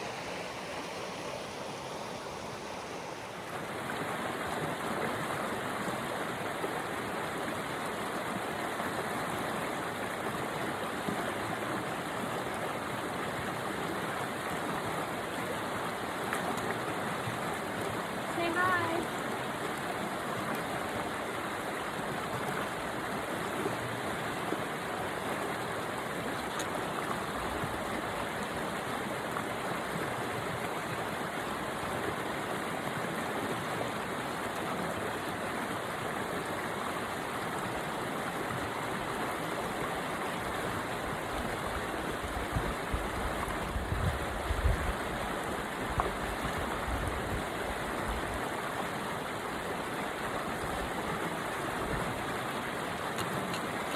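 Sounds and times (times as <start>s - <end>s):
river water rushing over rocks: 0.0s - 53.9s.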